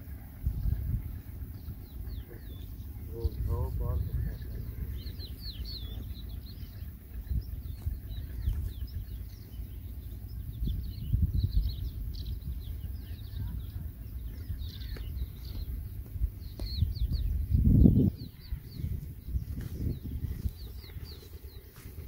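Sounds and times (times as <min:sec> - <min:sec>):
low rumble: 0:00.0 - 0:22.0
small birds chirping: 0:00.0 - 0:22.0.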